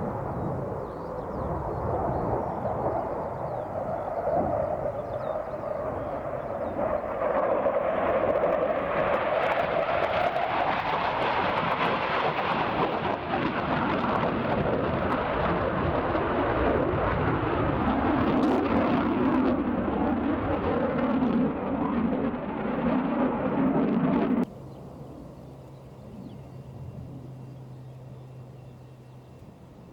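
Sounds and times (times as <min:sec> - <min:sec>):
jet engine noise: 0:00.0 - 0:29.9.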